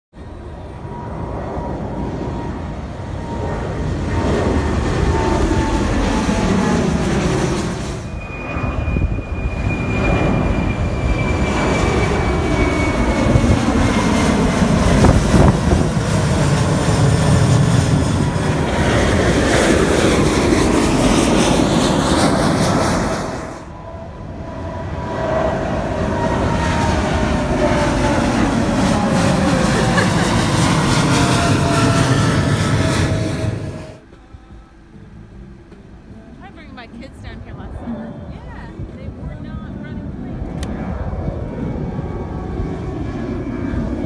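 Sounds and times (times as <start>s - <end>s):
jet airliners passing overhead: 0.2s - 44.0s.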